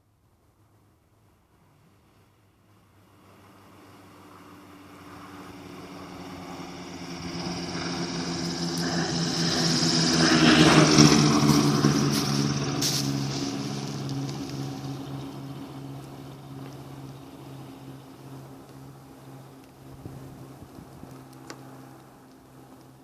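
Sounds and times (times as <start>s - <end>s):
propeller plane engine passing: 0.0s - 23.0s.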